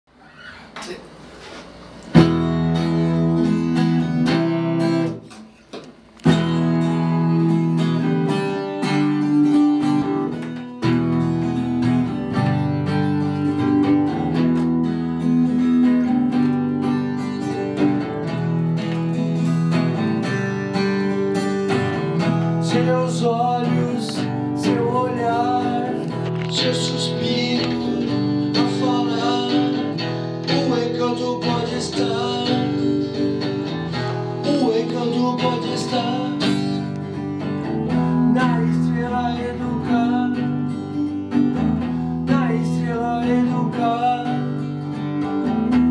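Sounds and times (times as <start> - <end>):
acoustic guitar strumming chords: 2.1 - 5.6, 6.2 - 45.9.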